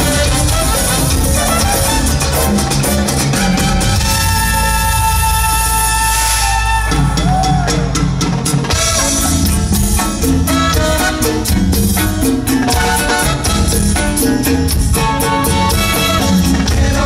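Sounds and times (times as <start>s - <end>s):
latin dance music over sound system: 0.0s - 17.0s.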